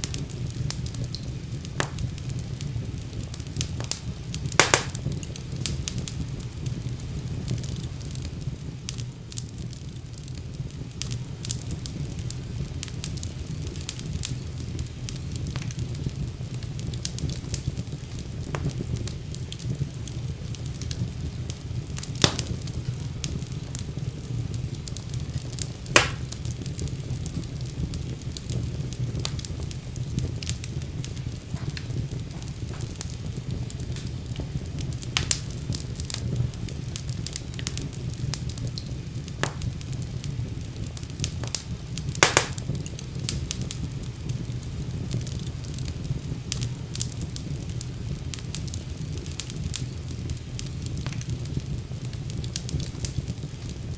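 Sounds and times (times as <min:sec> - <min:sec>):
fire crackles and pops: 0:00.0 - 0:53.9
low rumble of flames: 0:00.0 - 0:53.9.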